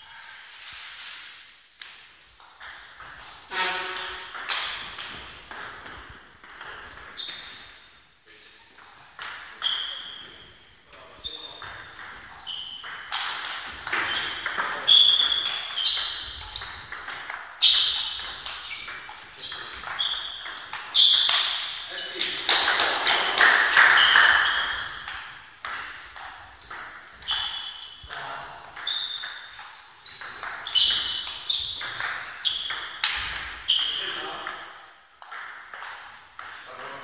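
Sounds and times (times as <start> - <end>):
table tennis ball hits: 2.5 - 7.8, 11.6 - 36.6.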